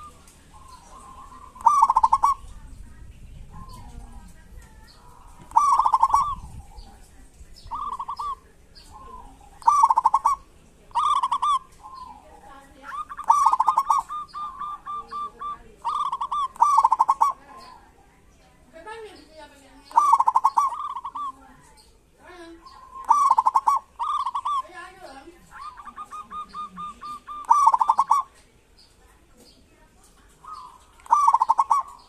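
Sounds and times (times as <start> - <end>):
dove calling in stuttering notes: 0.0 - 2.8, 3.4 - 7.0, 7.6 - 18.0, 19.8 - 28.4, 30.3 - 32.0.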